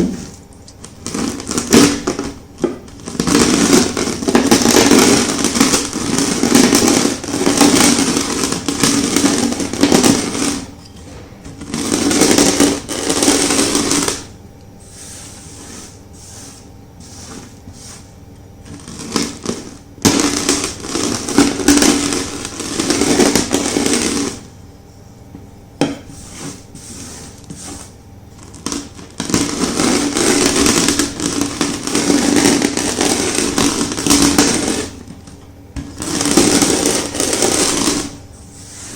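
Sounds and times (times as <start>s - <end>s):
rolling pin crushing chalk: 0.0s - 24.5s, 25.8s - 38.9s.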